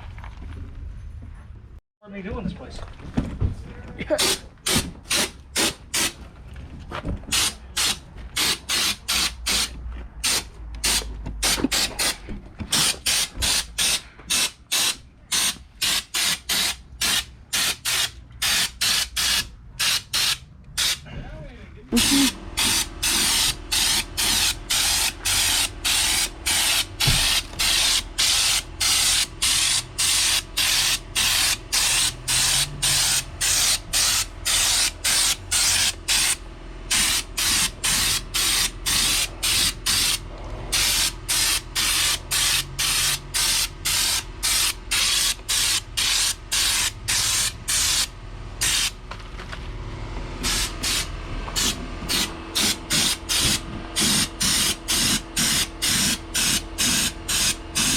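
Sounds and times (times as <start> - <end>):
spray gun hissing bursts: 7.3 - 21.0, 22.0 - 48.9, 50.4 - 57.9.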